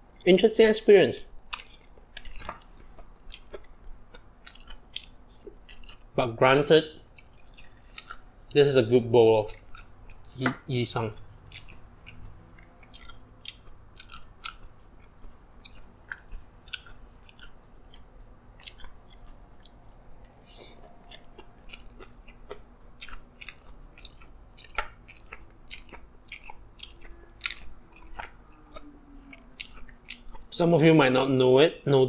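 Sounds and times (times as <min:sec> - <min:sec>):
person chewing food: 0:00.0 - 0:00.3, 0:01.2 - 0:30.8.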